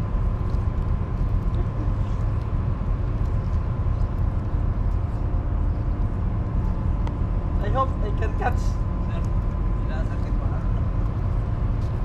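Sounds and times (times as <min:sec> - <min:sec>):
faint steady whine: 0:00.0 - 0:12.0
ship engines droning: 0:00.0 - 0:12.0.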